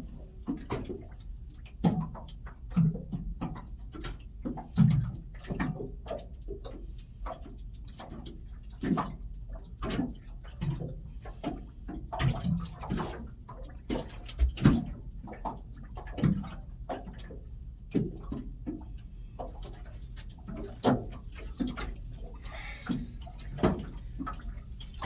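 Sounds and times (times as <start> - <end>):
water slapping against boat hull: 0.0 - 25.0.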